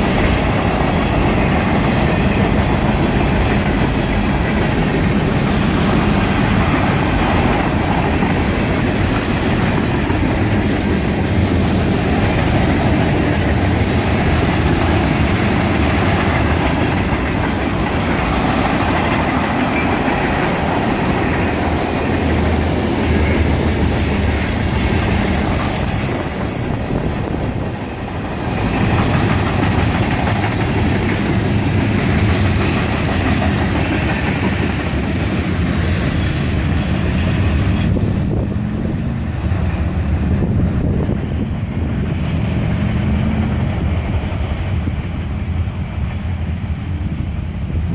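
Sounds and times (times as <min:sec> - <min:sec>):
freight train rolling past: 0:00.0 - 0:47.9.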